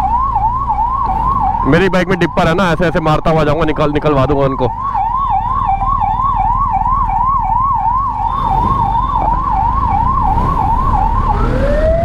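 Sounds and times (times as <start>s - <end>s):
ambulance siren: 0.0s - 12.0s.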